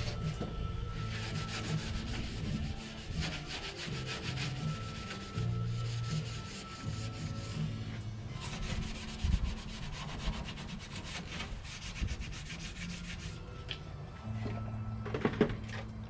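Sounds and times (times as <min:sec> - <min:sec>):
brush scrubbing metal: 0:00.0 - 0:13.4.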